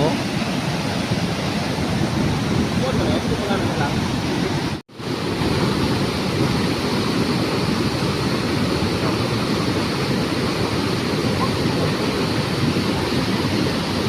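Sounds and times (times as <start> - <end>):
floodwater roaring: 0.0 - 14.0.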